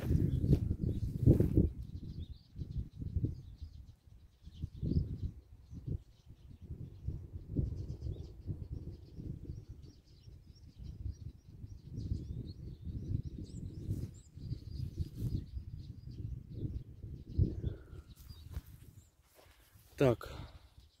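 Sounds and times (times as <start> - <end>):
songbirds twittering and chirping: 0.0 - 21.0
wind buffeting microphone: 0.0 - 21.0.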